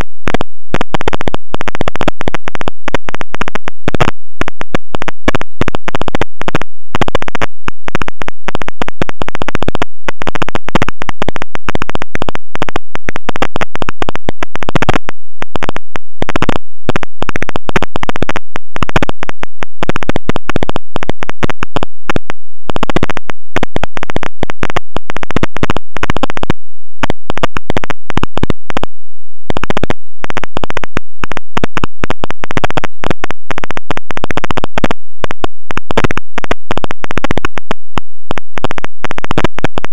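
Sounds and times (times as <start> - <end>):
loud crackling static: 0.0 - 39.9.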